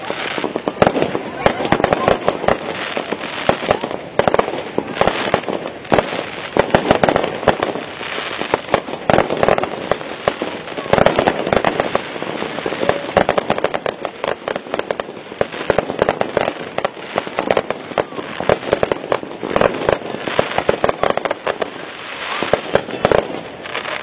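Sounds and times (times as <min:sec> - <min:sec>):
fireworks bangs: 0:00.0 - 0:24.0
fireworks crackling and popping: 0:00.0 - 0:24.0.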